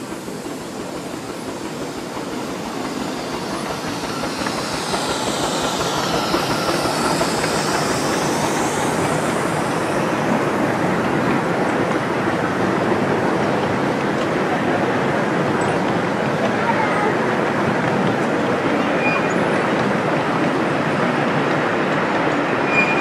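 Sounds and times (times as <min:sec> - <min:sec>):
miniature steam train passing: 0:00.0 - 0:23.0.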